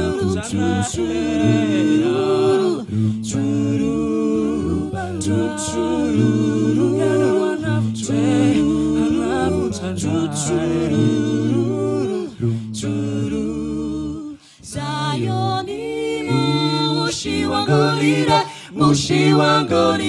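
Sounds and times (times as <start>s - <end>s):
mixed choir singing a cappella: 0.0s - 20.0s.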